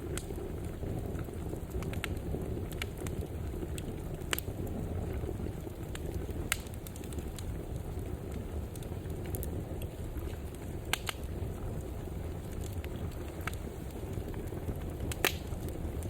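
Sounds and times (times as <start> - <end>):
fire crackling: 0.0 - 16.0
sharp pops of fire: 0.0 - 16.0.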